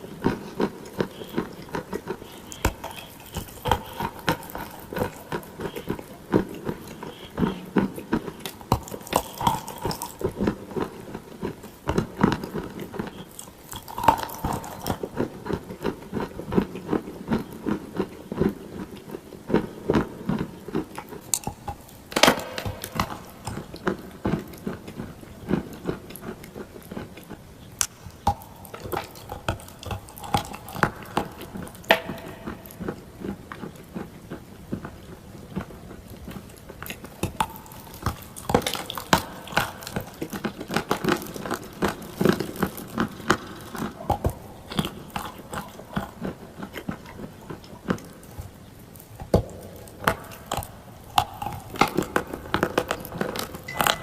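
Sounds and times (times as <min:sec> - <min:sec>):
biting and chewing clay: 0:00.0 - 0:54.0.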